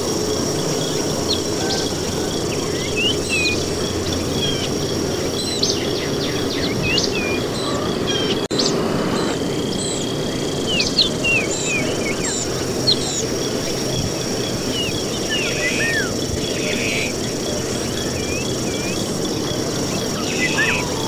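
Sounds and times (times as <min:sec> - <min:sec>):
chirping and whistled calls: 0:00.0 - 0:21.0
low rush of noise: 0:00.0 - 0:21.0
steady high whine: 0:00.0 - 0:21.0.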